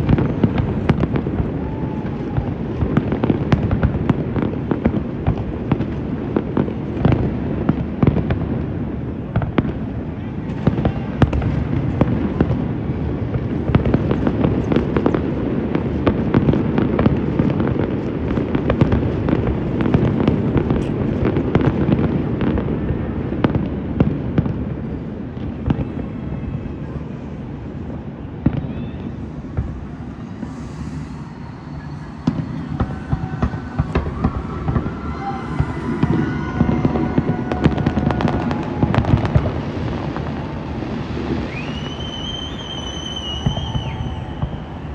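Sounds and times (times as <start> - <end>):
continuous rumble: 0.0 - 44.9
fireworks bangs and crackles: 0.0 - 44.9.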